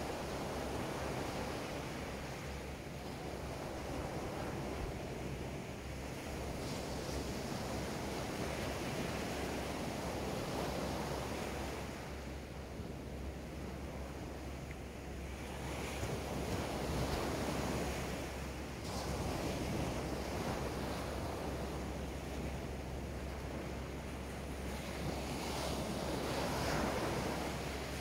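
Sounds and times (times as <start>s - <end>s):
ocean waves breaking on sand: 0.0s - 28.0s.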